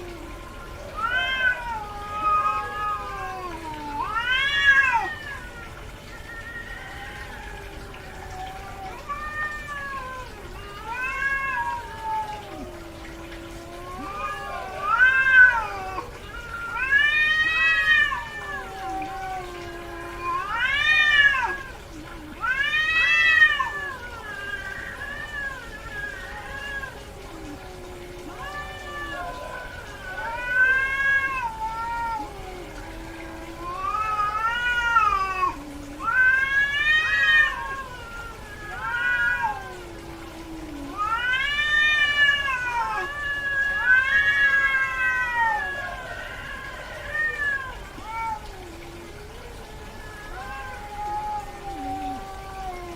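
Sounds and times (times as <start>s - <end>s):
cat meowing: 0.0s - 52.9s.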